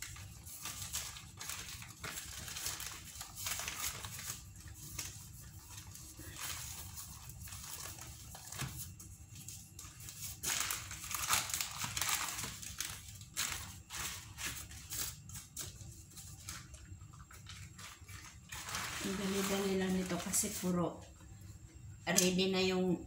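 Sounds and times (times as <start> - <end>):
wax paper rustling and crinkling: 0.0 - 20.8.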